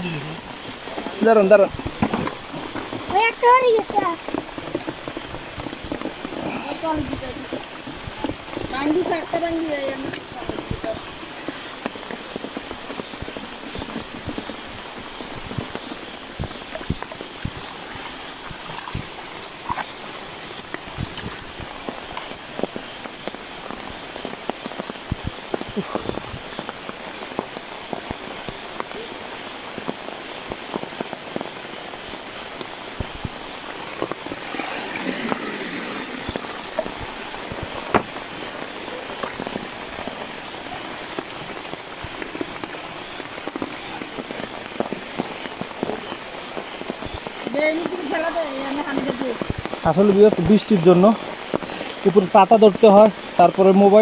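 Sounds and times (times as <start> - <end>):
raindrops ticking sharply: 0.0 - 54.0
steady rain falling: 0.0 - 54.0
water running and splashing: 0.0 - 54.0.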